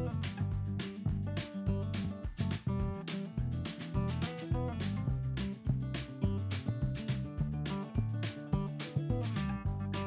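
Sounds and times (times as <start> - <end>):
background music with steady beat: 0.0 - 10.0
sustained bass notes: 0.0 - 10.0.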